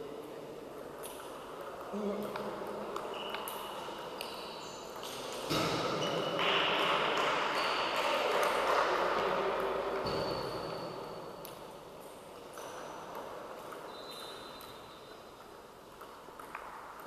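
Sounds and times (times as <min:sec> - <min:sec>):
wash of hall noise: 0:00.0 - 0:17.0.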